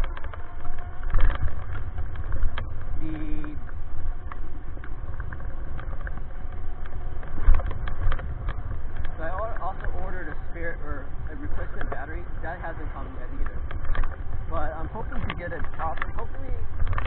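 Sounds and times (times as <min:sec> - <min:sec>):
clicks and rattles: 0:00.0 - 0:10.4, 0:13.3 - 0:17.0
low rumble: 0:00.0 - 0:17.0.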